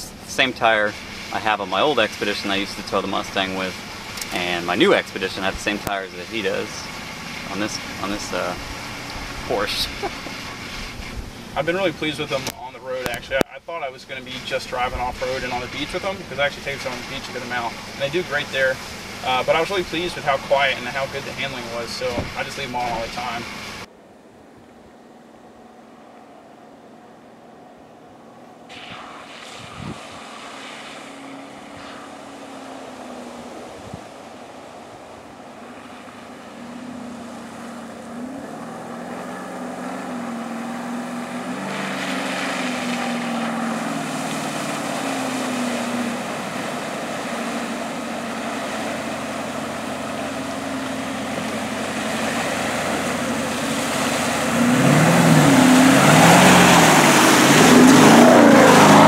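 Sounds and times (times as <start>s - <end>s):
car engine revving: 0.0s - 23.9s, 25.1s - 59.0s
water and mud splashing: 0.0s - 23.9s, 28.7s - 59.0s.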